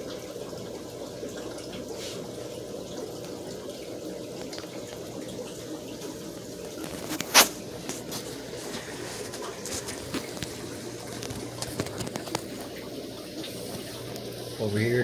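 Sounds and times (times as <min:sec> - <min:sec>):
aquarium water trickling and bubbling: 0:00.0 - 0:15.0.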